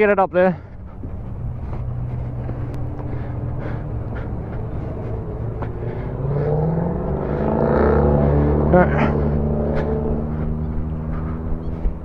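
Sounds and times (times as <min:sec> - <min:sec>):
motorcycle engine revving: 0:00.9 - 0:12.0.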